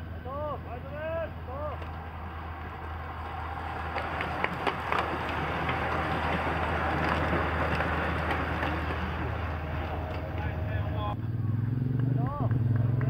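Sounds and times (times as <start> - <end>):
bicycles whirring past: 0.0 - 13.0.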